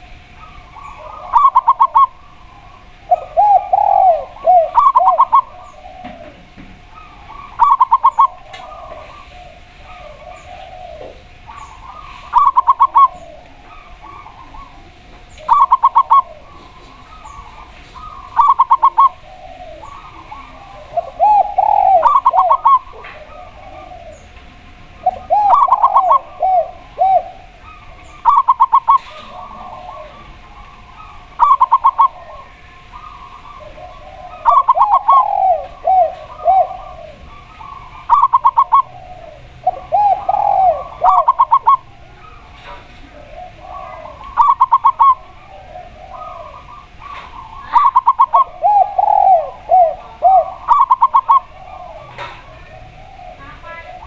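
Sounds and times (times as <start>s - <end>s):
dove lower arched coos: 0.0s - 54.0s
dove trilled coos: 0.0s - 54.0s.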